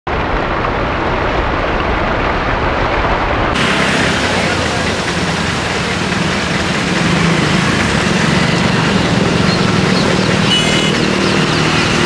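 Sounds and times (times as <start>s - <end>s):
low engine drone: 0.1s - 12.0s
water washing: 0.1s - 12.0s.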